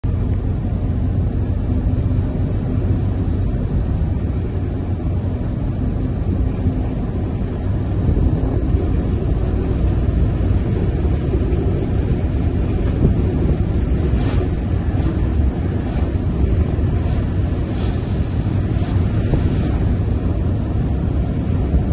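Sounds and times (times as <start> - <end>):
truck engine and tyre rumble: 0.0 - 21.9.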